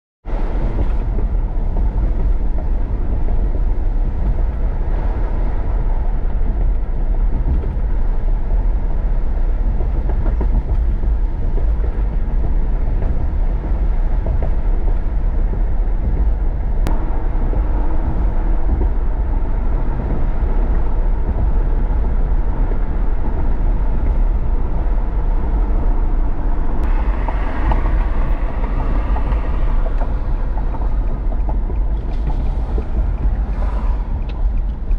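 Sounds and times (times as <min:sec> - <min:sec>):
wind buffeting microphone: 0:00.2 - 0:34.9.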